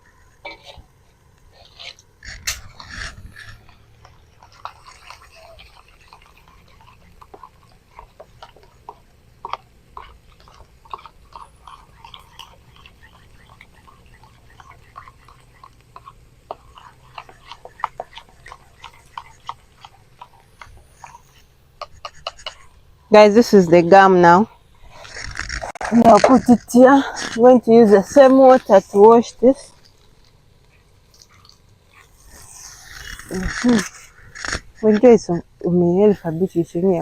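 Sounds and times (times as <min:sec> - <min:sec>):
paste being mixed in a cup: 0:01.5 - 0:35.2.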